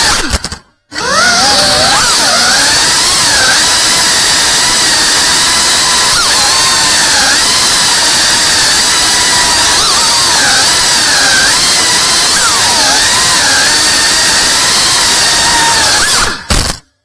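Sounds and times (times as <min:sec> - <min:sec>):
drone motors whining: 0:00.0 - 0:16.8.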